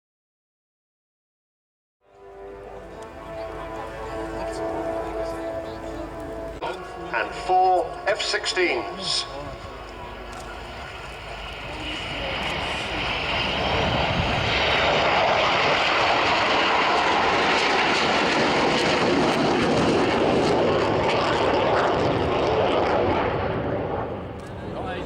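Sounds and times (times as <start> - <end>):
jet aircraft engines roaring: 2.1 - 25.0.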